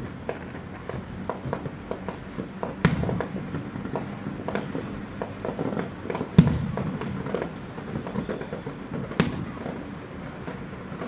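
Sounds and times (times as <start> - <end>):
distant fireworks pops and bangs: 0.0 - 11.0.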